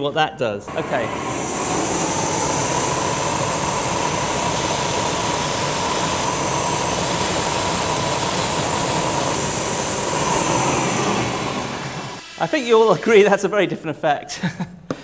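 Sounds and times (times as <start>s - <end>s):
gas burner flame rushing: 0.7s - 13.3s
thin high whine: 0.7s - 13.5s.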